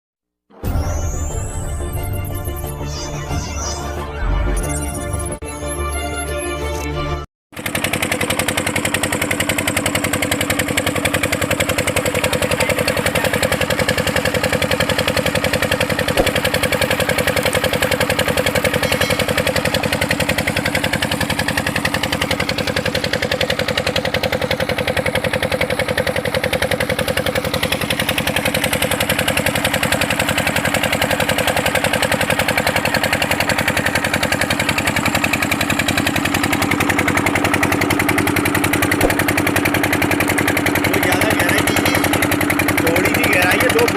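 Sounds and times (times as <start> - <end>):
water pump engine chugging: 7.6 - 43.9.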